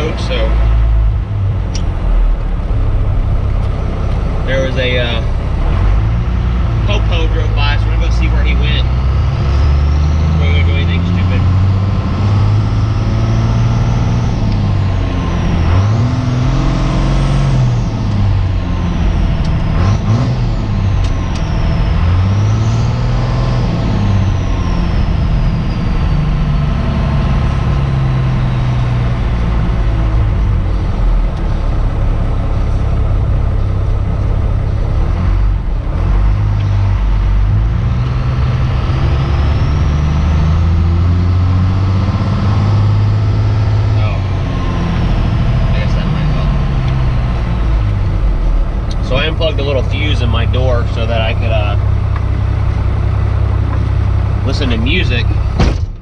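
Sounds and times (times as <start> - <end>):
diesel truck engine revving: 0.0 - 56.0.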